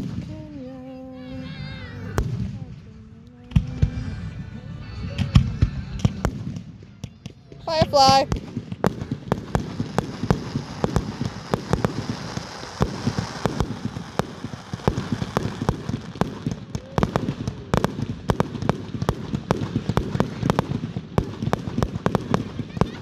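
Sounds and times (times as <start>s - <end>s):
crackling hiss of fireworks: 0.0s - 23.0s
fireworks cracking and popping: 1.2s - 23.0s.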